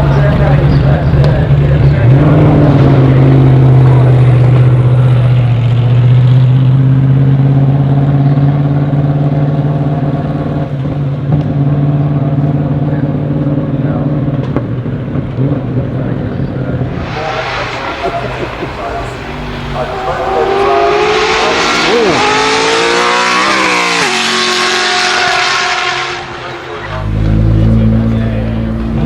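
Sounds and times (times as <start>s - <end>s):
car engine droning at low speed: 0.0s - 29.0s.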